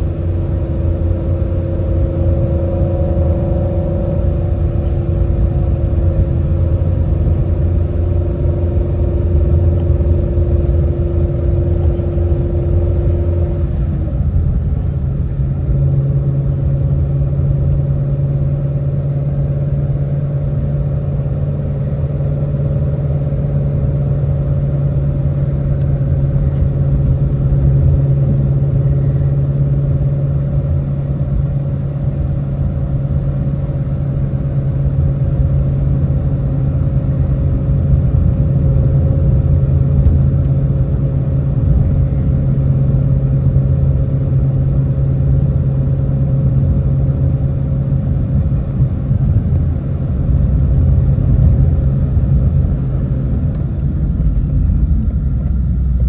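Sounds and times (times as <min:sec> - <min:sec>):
car engine droning: 0:00.0 - 0:56.0
low road rumble: 0:00.0 - 0:56.0.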